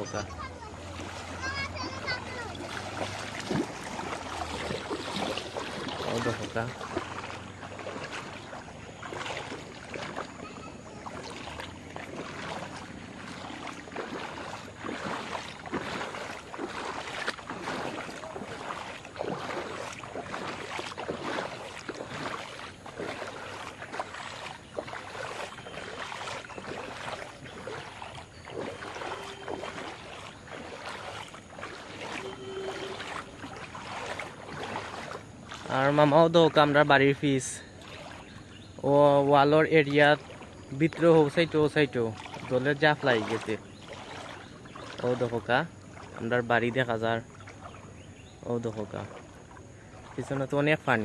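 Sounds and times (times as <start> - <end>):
floodwater splashing: 0.0 - 51.0.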